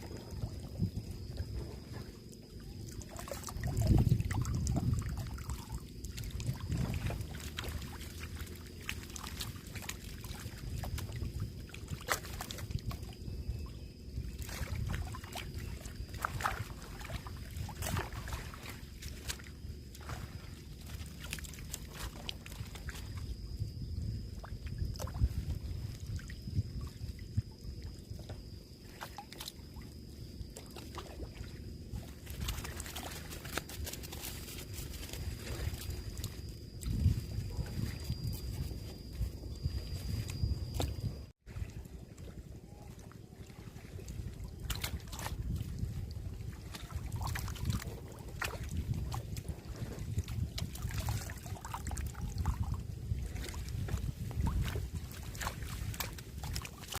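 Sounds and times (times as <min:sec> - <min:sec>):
wind rumbling on microphone: 0:00.0 - 0:29.3, 0:30.0 - 0:57.0
water sloshing and splashing: 0:00.0 - 0:57.0.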